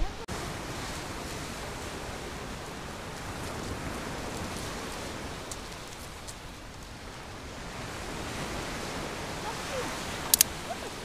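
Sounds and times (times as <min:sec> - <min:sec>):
waves breaking on pebble beach: 0:00.0 - 0:11.0.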